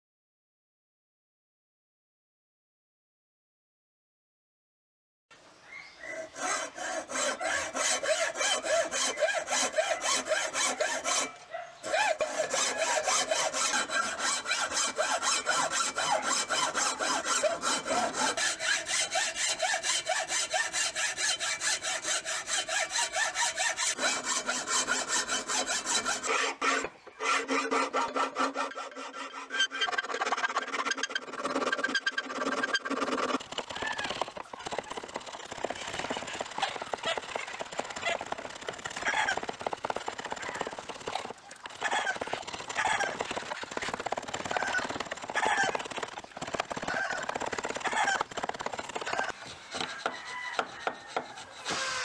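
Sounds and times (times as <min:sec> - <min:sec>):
file rasping on wood: 0:06.2 - 0:52.0
hacksaw cutting wood: 0:06.2 - 0:52.0.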